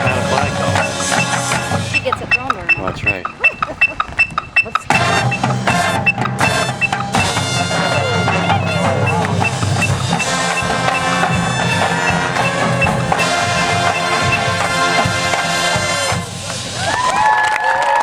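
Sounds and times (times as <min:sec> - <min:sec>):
marching band playing: 0:00.0 - 0:17.3.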